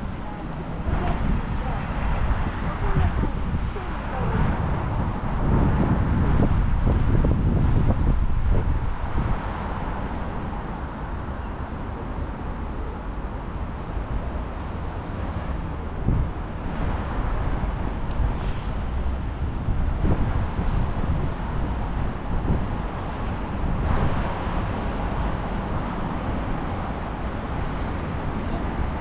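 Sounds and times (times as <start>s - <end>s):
street traffic passing: 0.0s - 29.0s
wind buffeting microphone: 0.0s - 29.0s.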